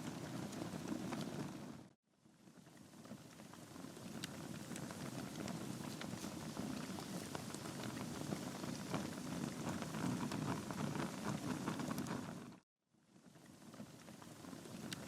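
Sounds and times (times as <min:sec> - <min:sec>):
logs crackling and popping: 0:00.0 - 0:01.8, 0:02.6 - 0:12.6, 0:13.5 - 0:15.0
low rush of flame: 0:00.0 - 0:12.6.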